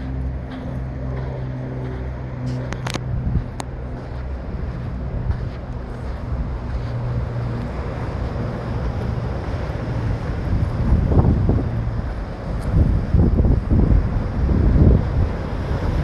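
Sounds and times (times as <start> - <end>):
boat engine humming: 0.0 - 16.0
rough sea: 0.0 - 16.0
wind buffeting microphone: 0.0 - 16.0.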